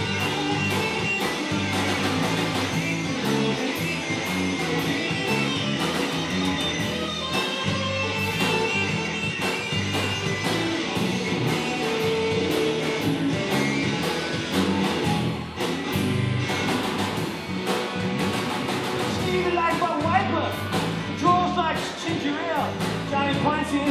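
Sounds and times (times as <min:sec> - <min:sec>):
live band playing blues shuffle: 0:00.0 - 0:23.9.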